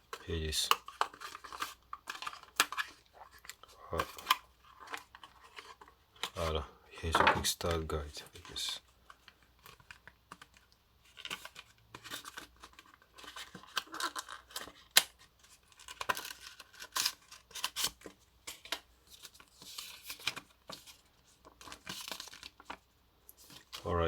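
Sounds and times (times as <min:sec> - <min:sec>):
paper rustling and crinkling: 0:00.1 - 0:07.7, 0:08.3 - 0:24.0.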